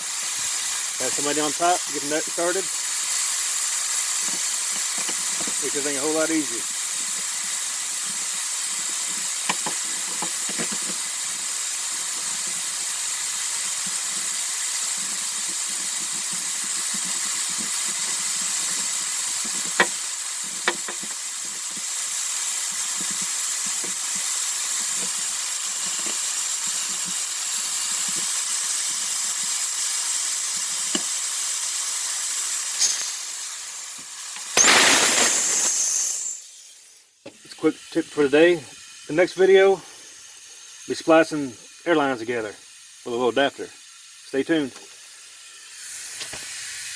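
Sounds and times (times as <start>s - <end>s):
steady hiss: 0.0s - 46.9s.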